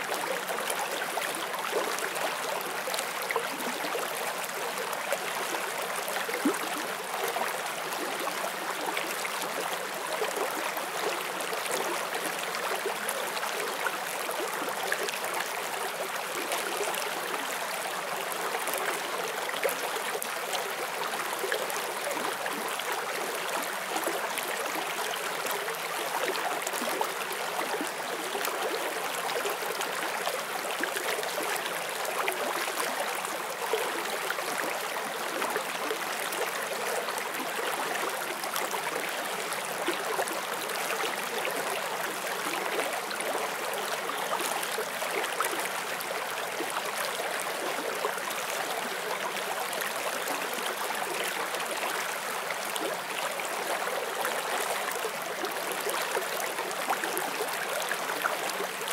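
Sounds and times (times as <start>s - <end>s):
stream flowing over rocks: 0.0s - 58.9s.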